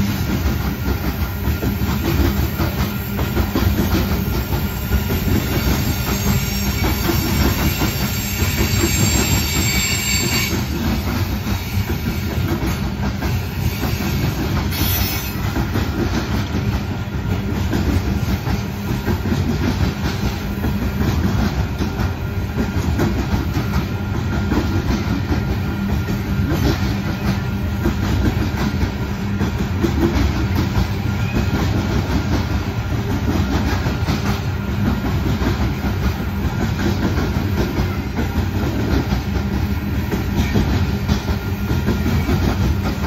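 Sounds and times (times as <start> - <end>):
train cars rumbling past: 0.0 - 43.0.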